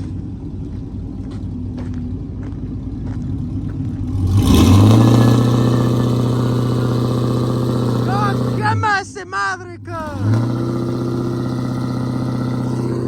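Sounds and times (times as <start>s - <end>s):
car engine revving: 0.0s - 9.0s, 9.9s - 13.0s.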